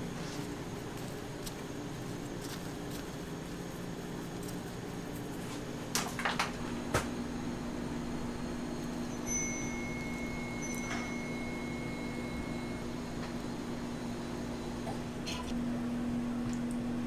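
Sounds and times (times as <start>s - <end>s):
kitchen background hum: 0.0s - 17.0s.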